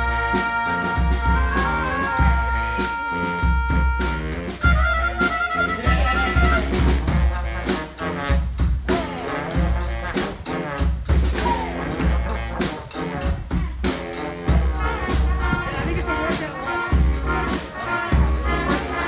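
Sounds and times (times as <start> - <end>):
drums steady beat: 0.0 - 19.0
trumpets and horns: 0.0 - 19.0.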